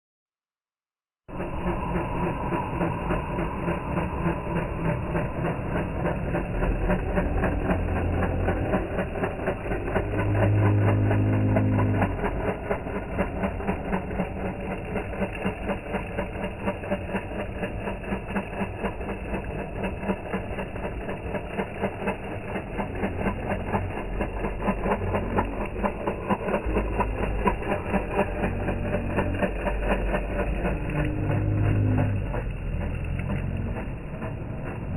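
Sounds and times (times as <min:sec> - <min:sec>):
toy truck motor buzzing: 0:03.7 - 0:34.9.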